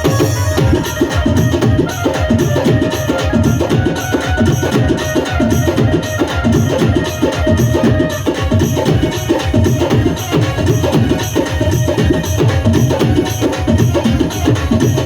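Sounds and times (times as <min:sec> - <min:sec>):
loud music with percussion beat: 0:00.0 - 0:15.0.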